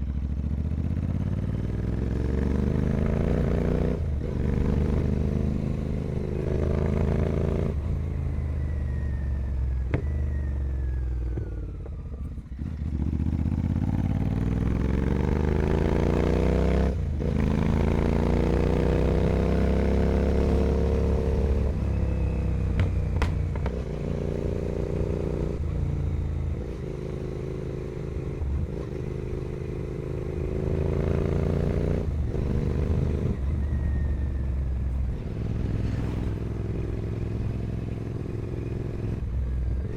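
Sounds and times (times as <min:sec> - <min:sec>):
motorcycle engine revving: 0:00.0 - 0:08.6, 0:09.2 - 0:39.9.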